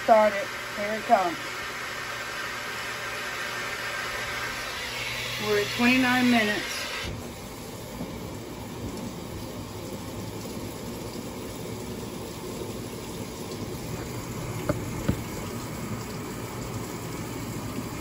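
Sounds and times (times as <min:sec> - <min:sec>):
water streaming into washing machine: 0:00.0 - 0:18.0.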